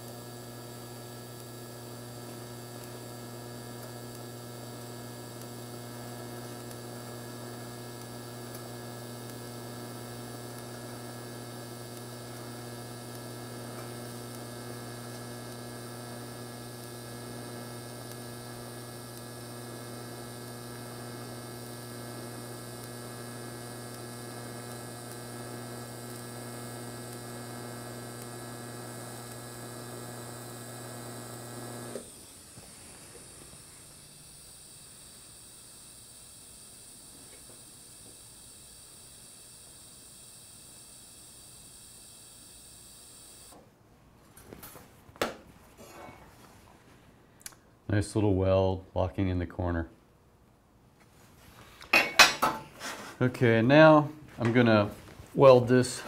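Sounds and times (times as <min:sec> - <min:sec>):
welding arc humming: 0:00.0 - 0:43.7, 0:51.8 - 0:56.0.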